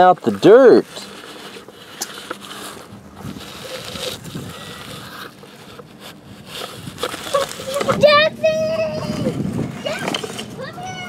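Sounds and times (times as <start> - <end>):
toy roller scraping over dirt: 0.0 - 11.0.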